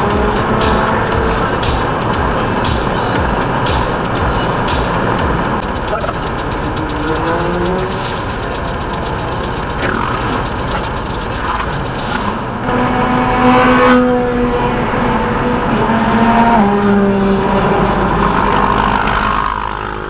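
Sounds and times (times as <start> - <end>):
car engine from inside cabin: 0.0 - 19.9
tyre road noise: 0.0 - 20.0.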